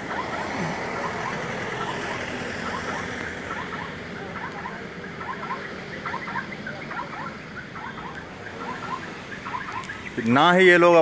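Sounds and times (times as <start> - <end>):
small birds chirping: 0.0 - 11.0
street and crowd noise: 0.0 - 11.0.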